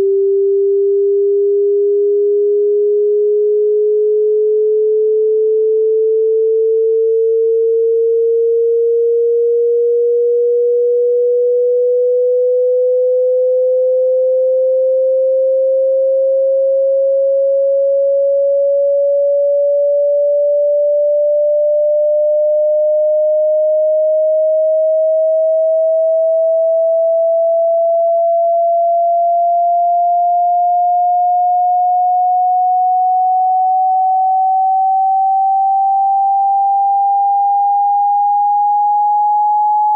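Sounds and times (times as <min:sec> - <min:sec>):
rising sine test tone: 0:00.0 - 0:39.9.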